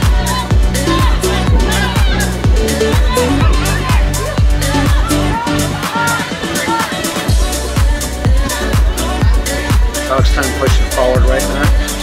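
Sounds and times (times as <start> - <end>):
house dance music: 0.0 - 12.0.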